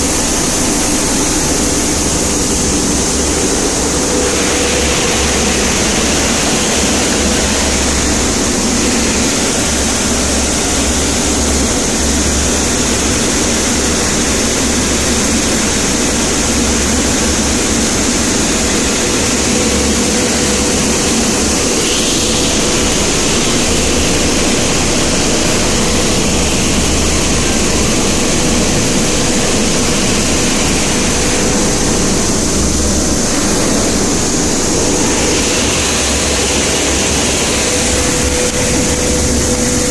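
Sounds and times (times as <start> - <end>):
cleaning machine humming: 0.0 - 39.9.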